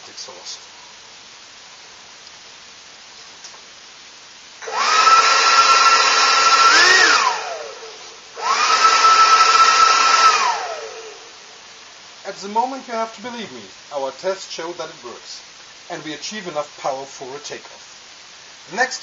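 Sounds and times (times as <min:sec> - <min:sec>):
ducted fan high whine: 0:00.0 - 0:19.0.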